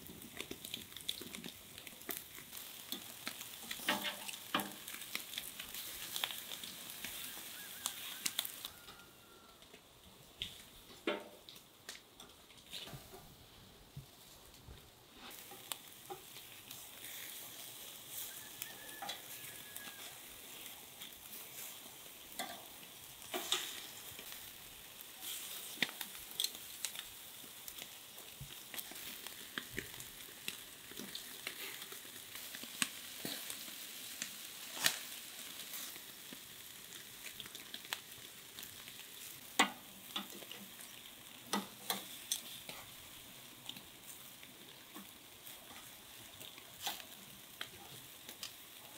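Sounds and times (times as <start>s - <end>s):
fat popping and crackling: 0.0s - 8.8s, 9.7s - 13.3s, 13.9s - 17.6s, 22.3s - 48.9s
meat sizzling on a grill: 0.0s - 48.9s.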